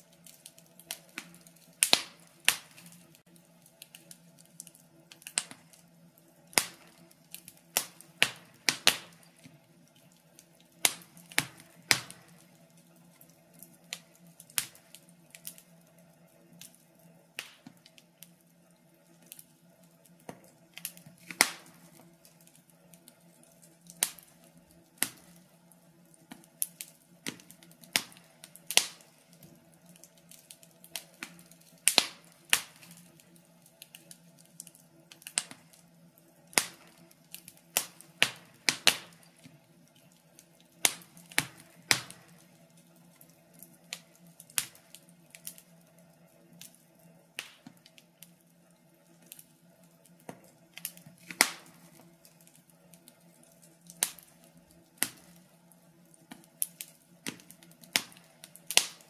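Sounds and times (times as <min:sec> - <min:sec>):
faint steady hum: 0:00.0 - 0:59.0
wood fire crackling: 0:00.0 - 0:59.0.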